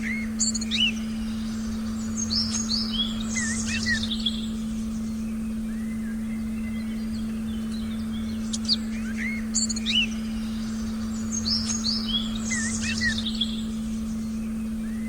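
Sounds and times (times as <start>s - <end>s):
faint low rumble: 0.0s - 15.0s
small birds chirping: 0.0s - 15.0s.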